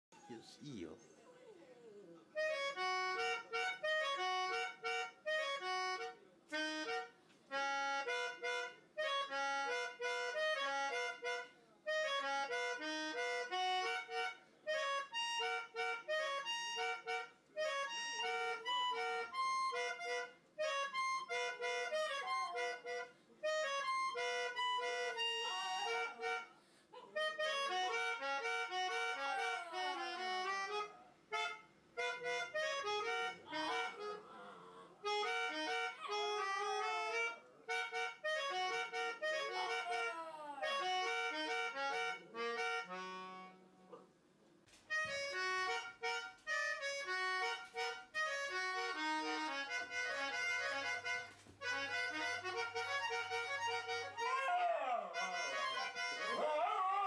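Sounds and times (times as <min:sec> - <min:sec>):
harmonica tune: 0:02.4 - 0:43.7, 0:44.8 - 0:57.0.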